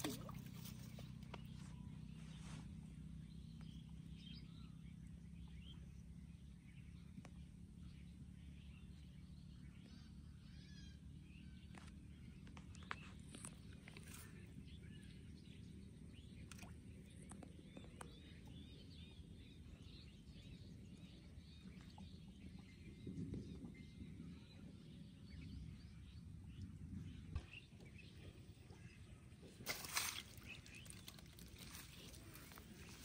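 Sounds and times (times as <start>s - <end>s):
low steady rumble: 0.0s - 33.0s
small birds chirping: 0.0s - 33.0s.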